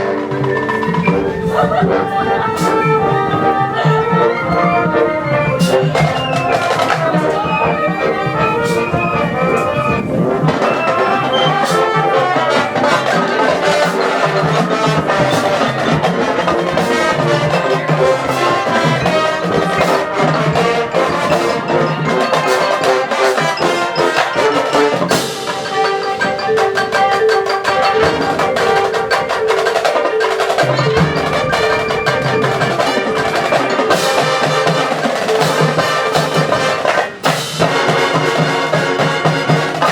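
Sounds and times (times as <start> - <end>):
mallet percussion: 0.0 - 39.9
marching band playing: 0.0 - 39.9.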